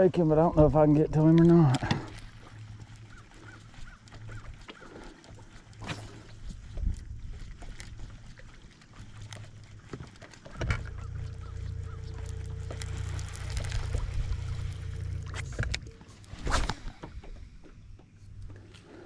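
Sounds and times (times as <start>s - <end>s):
water splashing: 0.0s - 17.6s
boat motor humming: 0.0s - 19.0s.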